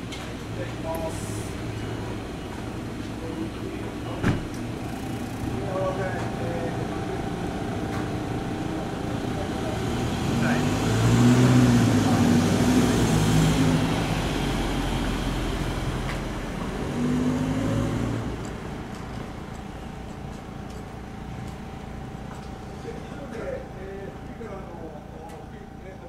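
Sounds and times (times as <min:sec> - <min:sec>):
bus engine pulling away: 0:00.0 - 0:23.2.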